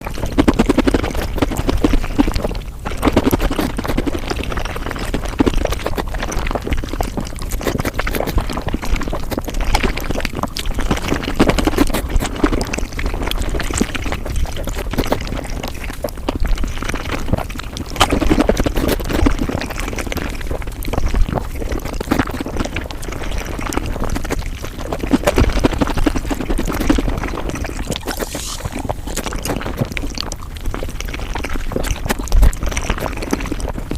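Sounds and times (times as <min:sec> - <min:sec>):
sped-up chewing sounds: 0:00.0 - 0:33.9.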